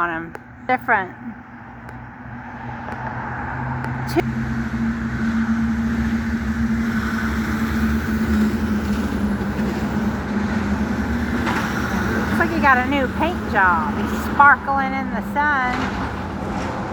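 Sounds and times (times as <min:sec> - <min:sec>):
vehicle engine running: 0:01.3 - 0:16.3.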